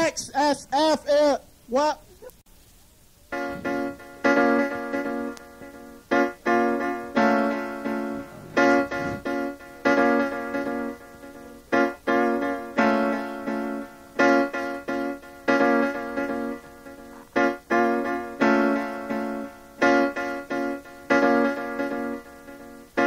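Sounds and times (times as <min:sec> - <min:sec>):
hip hop piano chords: 0:03.3 - 0:23.0.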